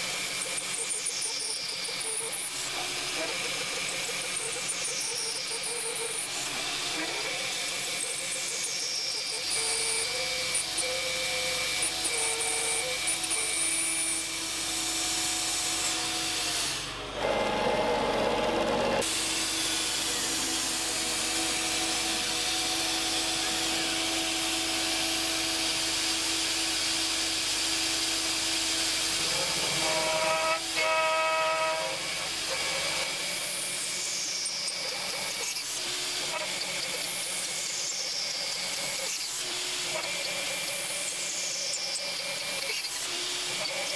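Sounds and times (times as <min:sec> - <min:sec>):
router spindle running: 0:00.1 - 0:43.9.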